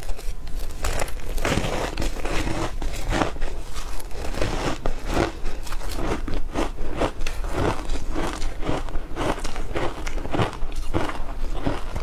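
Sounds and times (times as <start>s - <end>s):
ice crunched between teeth: 0.6s - 12.0s.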